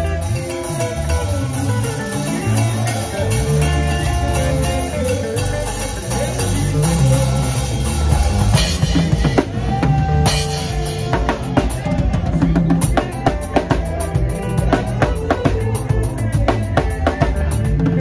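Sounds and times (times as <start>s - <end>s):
drum kit: 0.0s - 18.0s
electric bass line: 0.0s - 18.0s
live band playing groove: 0.0s - 18.0s.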